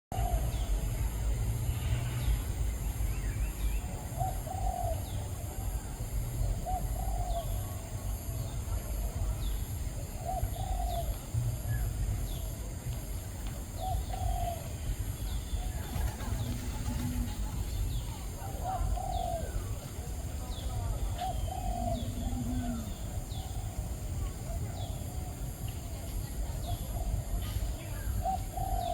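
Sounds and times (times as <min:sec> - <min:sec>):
steady low rumble: 0:00.1 - 0:28.9
birds low arched calls: 0:00.2 - 0:28.9.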